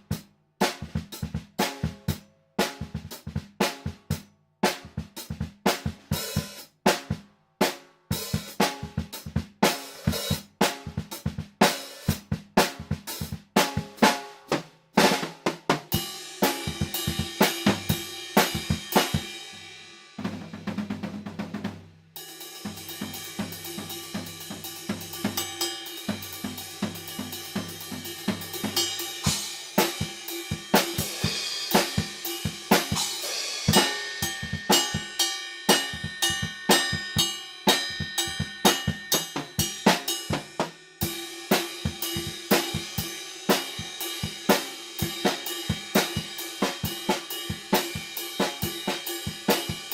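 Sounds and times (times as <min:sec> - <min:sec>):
acoustic drum kit playing: 0:00.0 - 0:49.9.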